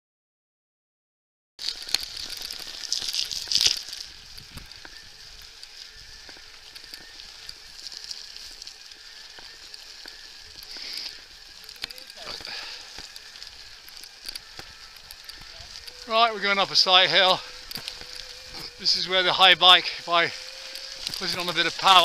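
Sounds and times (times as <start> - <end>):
bike tyres rolling over dirt: 1.6 - 22.0.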